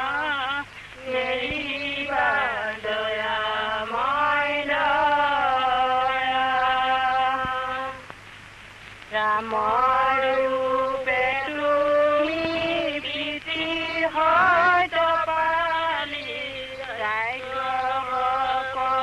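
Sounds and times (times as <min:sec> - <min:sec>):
person chanting a prayer: 0:00.0 - 0:08.0, 0:09.1 - 0:19.0.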